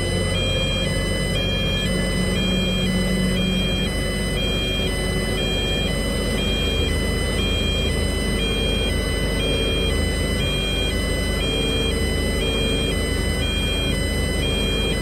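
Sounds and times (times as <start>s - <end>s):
two-tone siren: 0.0s - 15.0s.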